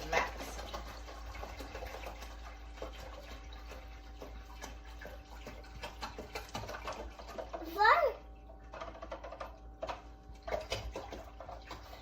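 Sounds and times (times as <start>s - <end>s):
small clicks and drips: 0.0s - 12.0s
water pouring into plastic tank: 0.0s - 12.0s.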